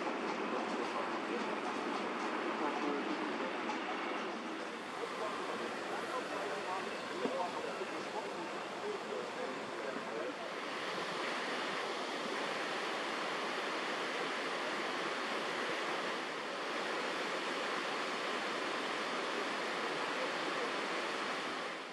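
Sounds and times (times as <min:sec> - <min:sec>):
water rushing: 0:04.4 - 0:21.9.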